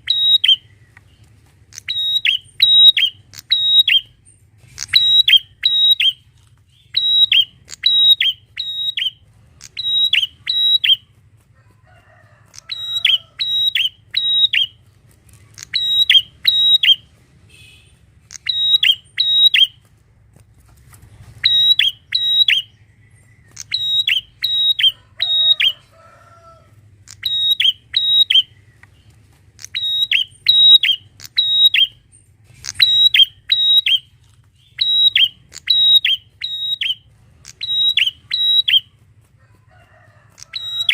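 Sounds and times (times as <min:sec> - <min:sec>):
bird singing sharp high chirps: 0:00.0 - 0:01.0, 0:01.7 - 0:11.1, 0:12.6 - 0:14.8, 0:15.5 - 0:19.8, 0:21.4 - 0:25.8, 0:27.1 - 0:38.9, 0:40.4 - 0:40.9.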